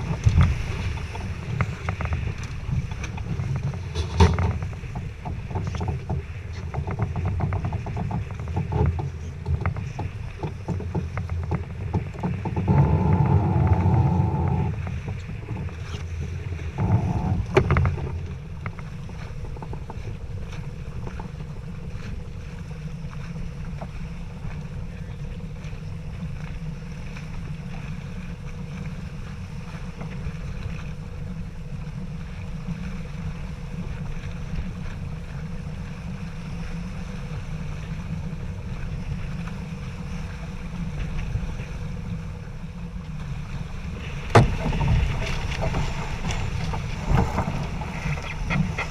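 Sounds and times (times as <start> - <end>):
rush of wind and water: 0.0 - 48.9.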